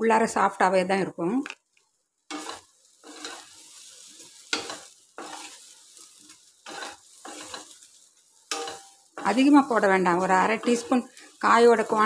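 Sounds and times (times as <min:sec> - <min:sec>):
faint sizzle of frying: 0:00.0 - 0:12.0
spatula scraping metal pan: 0:02.3 - 0:12.0.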